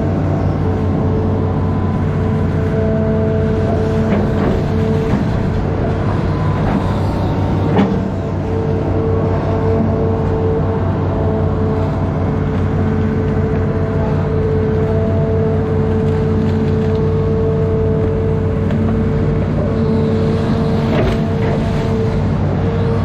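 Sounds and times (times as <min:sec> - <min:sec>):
diesel engine running: 0:00.0 - 0:23.0
steady whine: 0:00.0 - 0:23.0.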